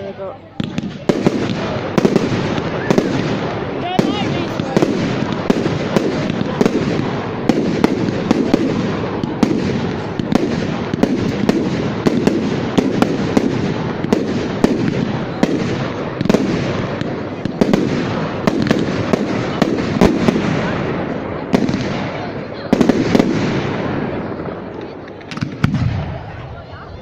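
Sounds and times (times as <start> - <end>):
fireworks cracks and bangs: 0.6 - 26.8.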